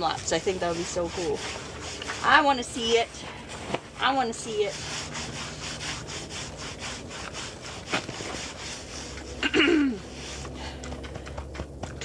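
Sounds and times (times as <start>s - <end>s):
faint rubbing: 0.0s - 10.6s.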